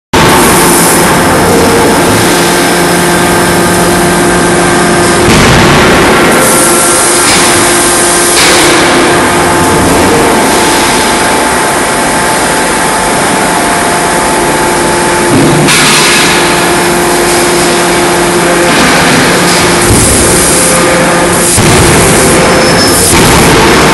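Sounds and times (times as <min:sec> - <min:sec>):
machinery drone: 0:00.2 - 0:23.9.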